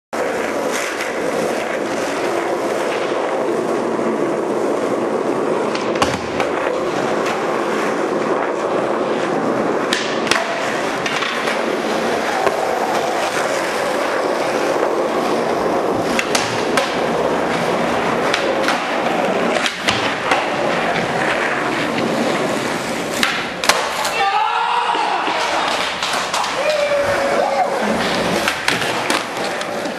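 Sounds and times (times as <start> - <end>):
skateboard wheels rolling on concrete: 0.1 - 29.9
skateboard clacking on ground: 0.2 - 29.9.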